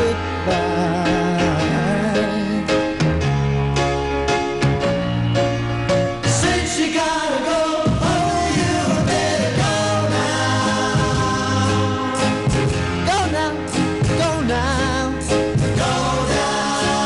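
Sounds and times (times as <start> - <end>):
pop record with singing: 0.0 - 3.0, 6.2 - 17.0.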